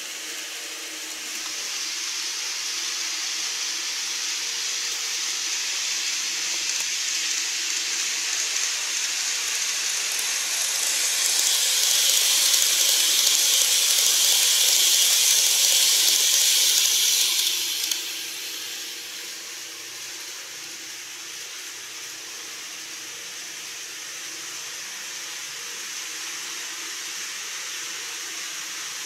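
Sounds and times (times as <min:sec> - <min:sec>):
model train whirring: 0:00.0 - 0:29.0.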